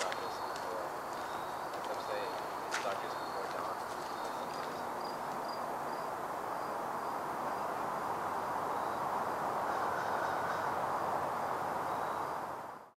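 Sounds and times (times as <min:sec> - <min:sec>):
steady rushing hiss: 0:00.0 - 0:12.9.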